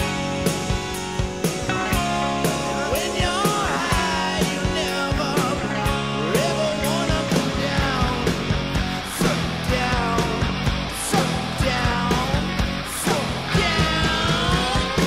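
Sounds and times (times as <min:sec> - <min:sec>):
guitar: 0:00.0 - 0:15.0
rock music: 0:00.0 - 0:15.0
steady drum beat: 0:00.0 - 0:15.0
person singing: 0:02.2 - 0:15.0.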